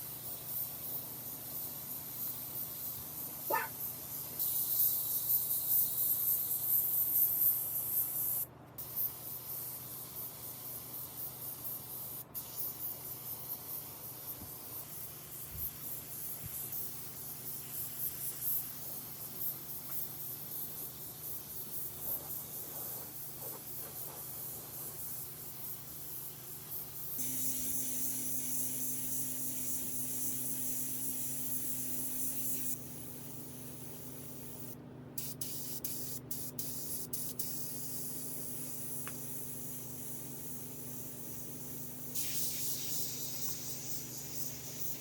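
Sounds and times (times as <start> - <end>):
spraying hiss: 0.0 - 45.0.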